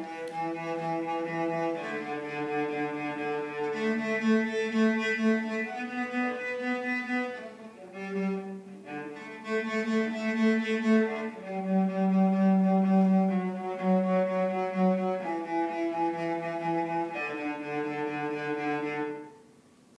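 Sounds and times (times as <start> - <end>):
bowed cello melody: 0.0 - 19.6.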